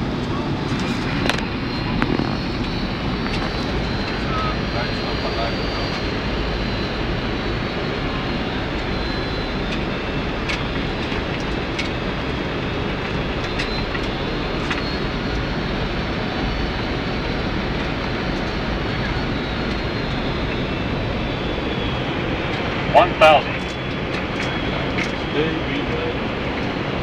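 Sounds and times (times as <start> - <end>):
aircraft engine noise: 0.0 - 27.0
faint high whine: 0.0 - 27.0.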